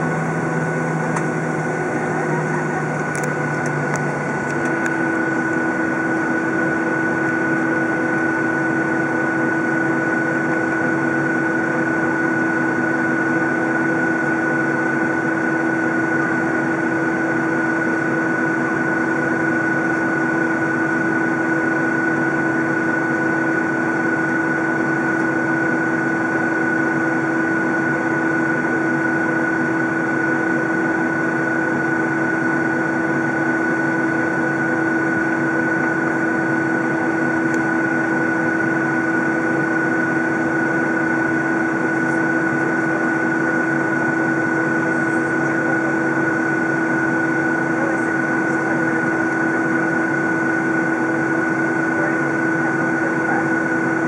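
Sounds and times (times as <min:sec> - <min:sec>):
jet engine drone: 0:00.0 - 0:54.0.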